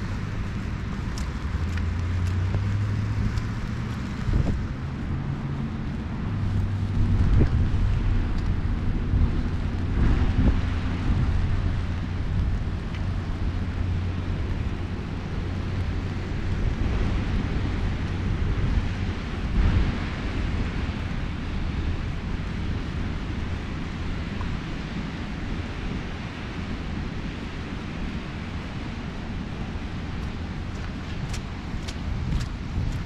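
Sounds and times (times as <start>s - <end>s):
wind gusting on microphone: 0.0s - 33.0s.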